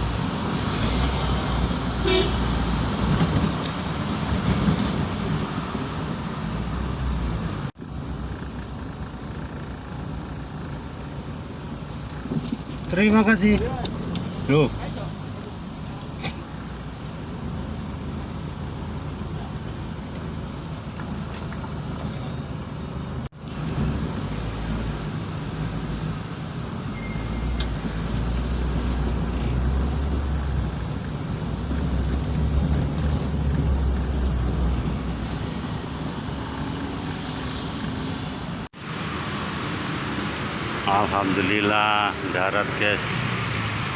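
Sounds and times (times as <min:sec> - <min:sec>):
ambulance engine drone: 0:00.0 - 0:43.9
road noise while driving: 0:00.0 - 0:43.9.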